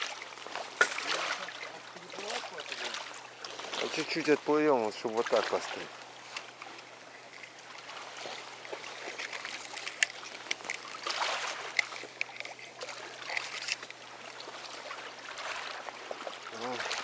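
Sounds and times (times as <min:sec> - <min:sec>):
oars splashing in water: 0:00.0 - 0:17.0
water trickling: 0:00.0 - 0:17.0.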